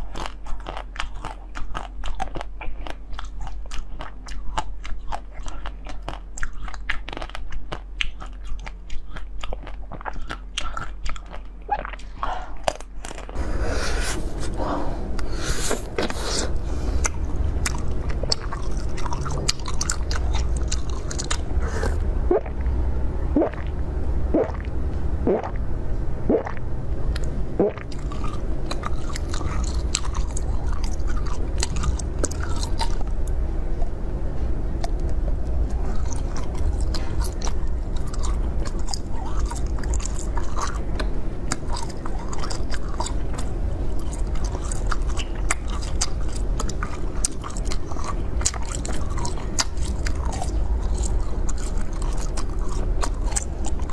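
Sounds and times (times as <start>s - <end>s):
person chewing crunchy food: 0.0s - 25.7s, 26.3s - 53.9s
low hum: 7.8s - 53.9s.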